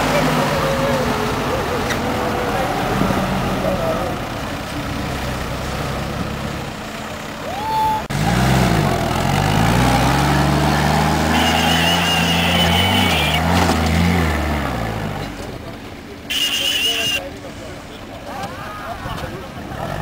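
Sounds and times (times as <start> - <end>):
jeep engine working off-road: 0.0 - 20.0.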